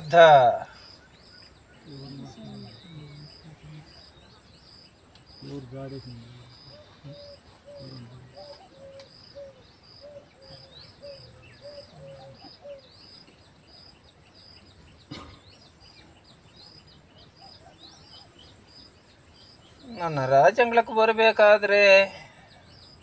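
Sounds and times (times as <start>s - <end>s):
bird high chirps: 0.0s - 23.0s.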